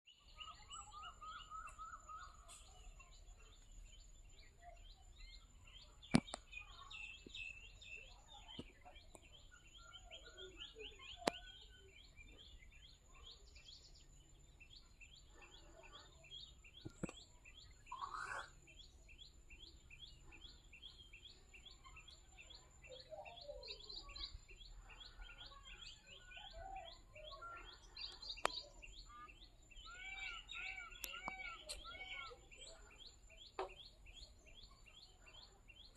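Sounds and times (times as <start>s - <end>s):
faint birdsong: 0.0s - 35.9s.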